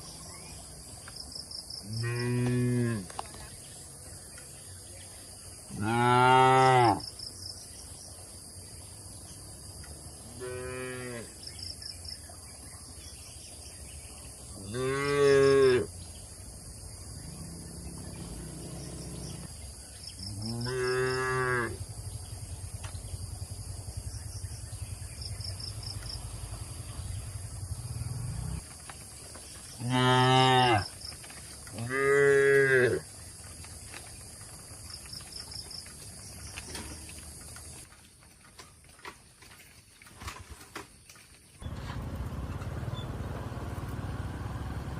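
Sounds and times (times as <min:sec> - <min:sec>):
insect chirping: 0:00.0 - 0:38.0.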